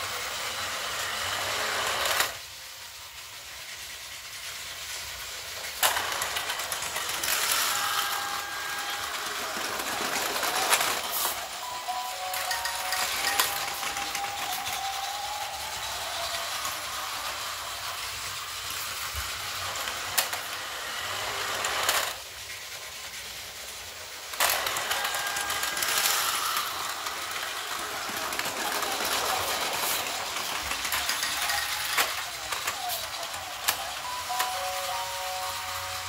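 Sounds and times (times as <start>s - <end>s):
toy train motor running: 0.0s - 36.0s
plastic wheels rattling on track: 0.8s - 2.4s, 3.2s - 36.0s.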